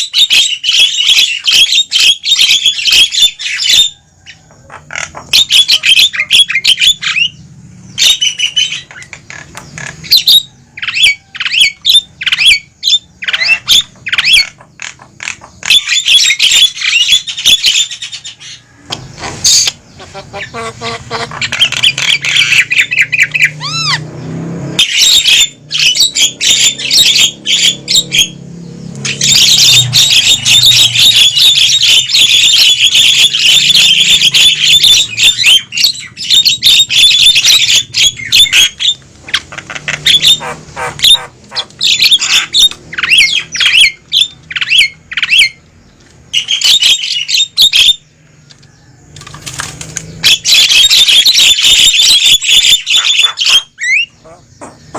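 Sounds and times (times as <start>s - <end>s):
myna squawking and chattering: 0.0s - 7.4s, 8.0s - 24.1s, 29.0s - 45.6s, 50.1s - 54.9s.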